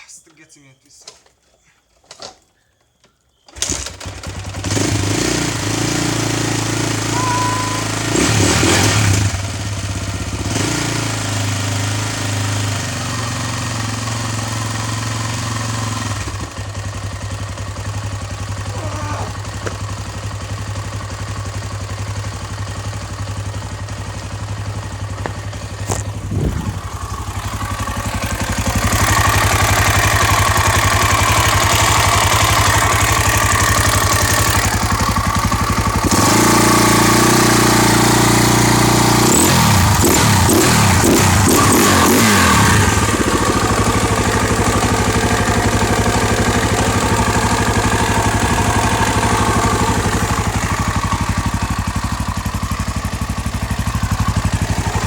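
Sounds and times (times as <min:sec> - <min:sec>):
motorcycle engine running: 0:04.0 - 0:55.0.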